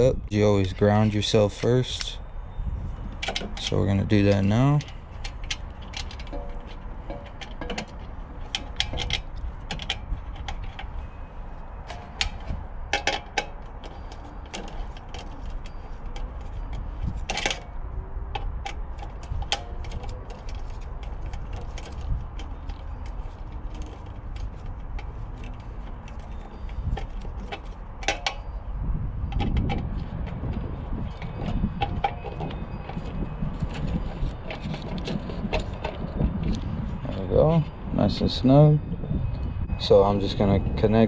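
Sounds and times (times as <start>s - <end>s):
small metallic clicks and rattles: 3.1s - 11.2s, 11.8s - 36.7s.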